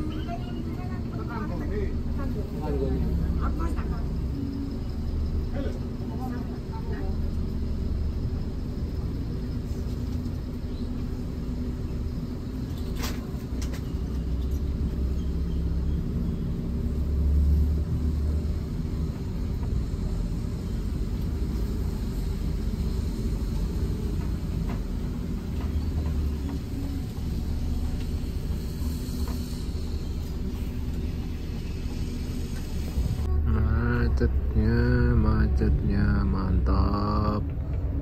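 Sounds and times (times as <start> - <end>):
bus engine rumble: 0.0 - 38.0.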